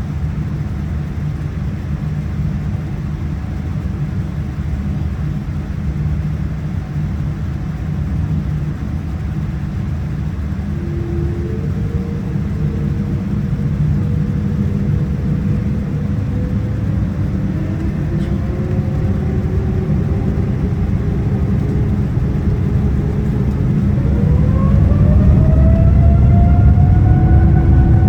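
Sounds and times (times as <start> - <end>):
airplane cabin rumble: 0.0 - 28.0
jet engine whine rising: 0.1 - 28.0.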